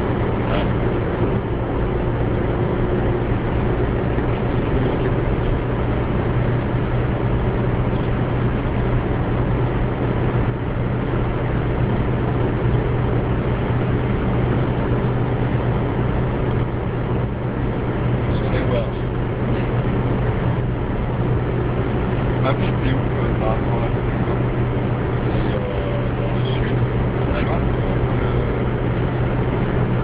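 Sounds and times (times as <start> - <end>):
car interior engine and road drone: 0.0 - 30.0.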